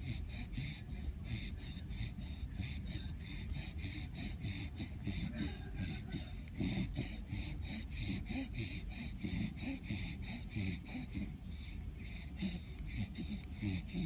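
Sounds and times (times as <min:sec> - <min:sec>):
dog snoring: 0:00.0 - 0:14.0.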